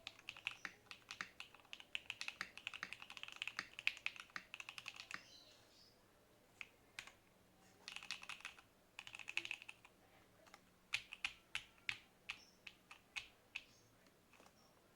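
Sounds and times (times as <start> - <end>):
mechanical keyboard typing: 0.0 - 5.2, 6.6 - 7.2, 7.9 - 14.6.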